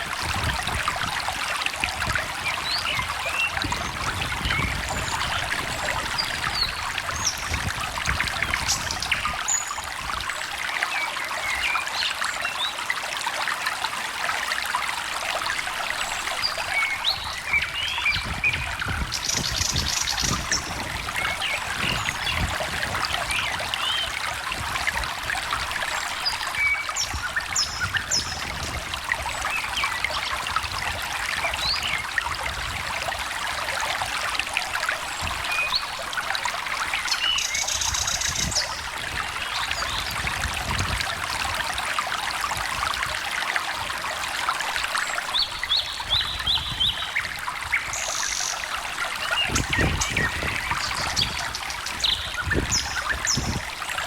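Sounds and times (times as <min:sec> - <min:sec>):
stream trickling and babbling: 0:00.0 - 0:54.0.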